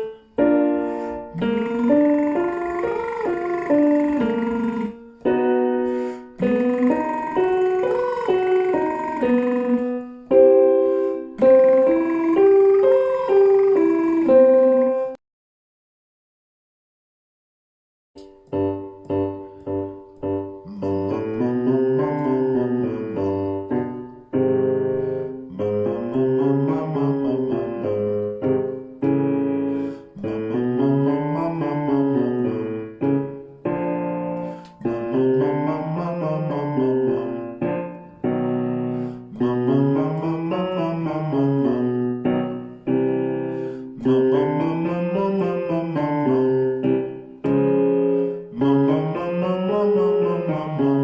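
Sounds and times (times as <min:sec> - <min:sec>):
piano scales and chords: 0:00.0 - 0:15.2, 0:18.2 - 0:51.0.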